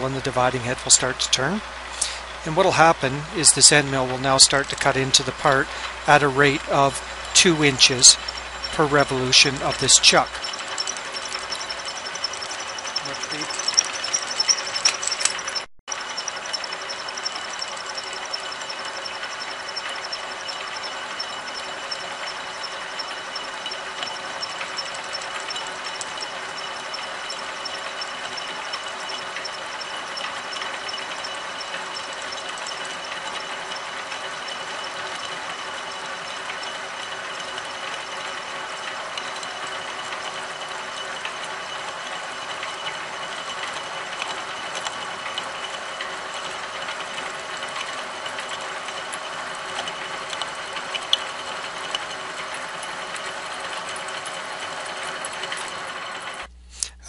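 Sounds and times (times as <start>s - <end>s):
fine rapid ticking from cutting: 0.0s - 56.5s
milling machine whirring: 0.0s - 56.5s
sharp mechanical clicks: 2.0s - 56.5s.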